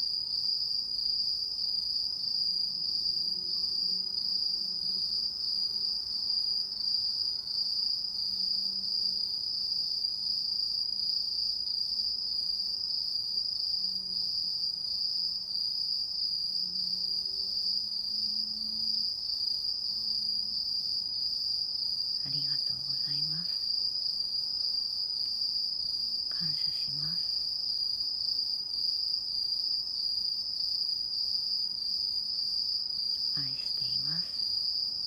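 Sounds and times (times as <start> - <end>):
insects chirping trill: 0.0 - 35.0.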